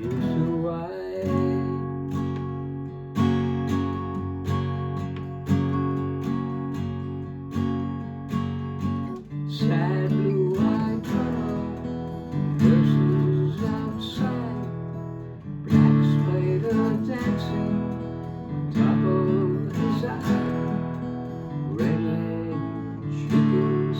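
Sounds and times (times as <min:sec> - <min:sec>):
acoustic guitar chords: 0:00.0 - 0:23.9.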